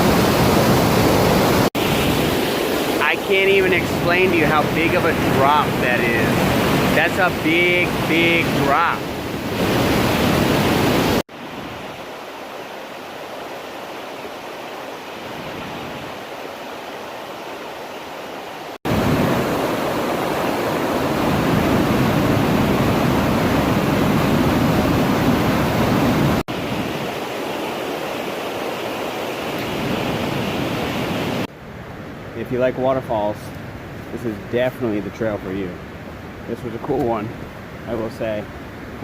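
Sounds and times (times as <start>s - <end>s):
waterfall rushing: 0.0s - 31.5s.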